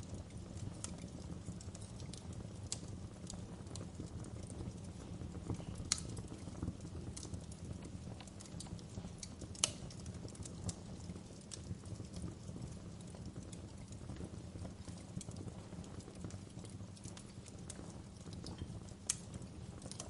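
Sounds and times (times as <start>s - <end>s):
fire popping and snapping: 0.0s - 20.0s
fire rumbling: 0.0s - 20.0s.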